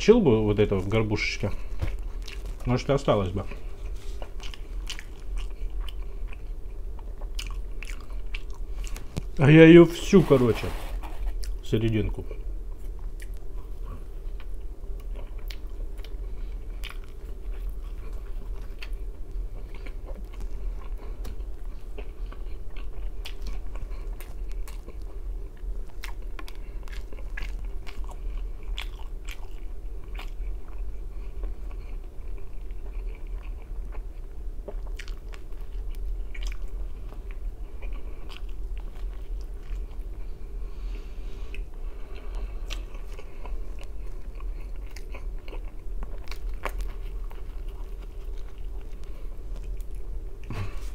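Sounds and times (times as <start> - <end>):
chewing and crunching pizza: 0.0 - 50.9
steady low hum: 0.0 - 50.9.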